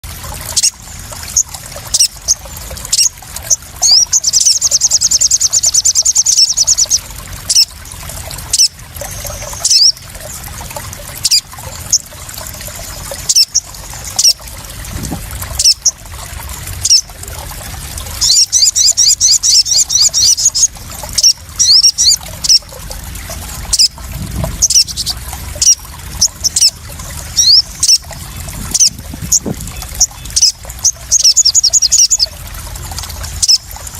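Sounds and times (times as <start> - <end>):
water splashing and dripping: 0.0 - 33.9
bird chirping and trilling: 0.5 - 10.4, 11.2 - 14.5, 15.6 - 16.0, 16.8 - 17.3, 18.1 - 22.8, 23.6 - 32.4, 33.2 - 33.9.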